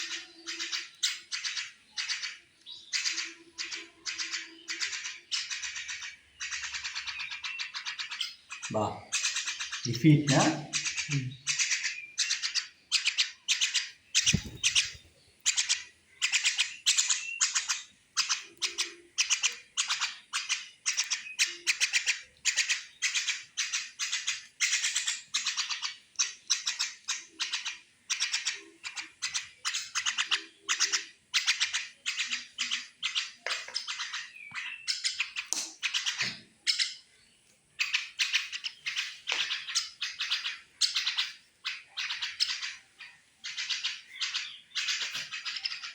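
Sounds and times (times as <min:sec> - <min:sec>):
mynas harsh chattering calls: 0:00.0 - 0:37.1, 0:37.8 - 0:45.9.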